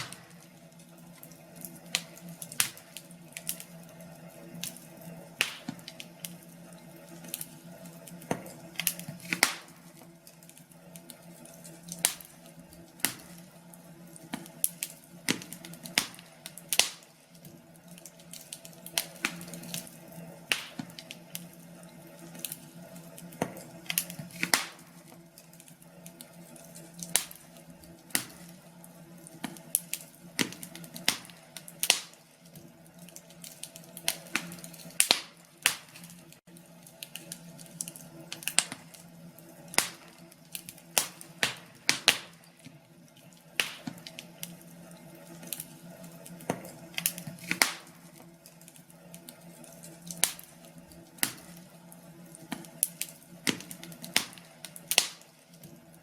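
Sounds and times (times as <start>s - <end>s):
log fire crackling and popping: 0.0s - 56.0s.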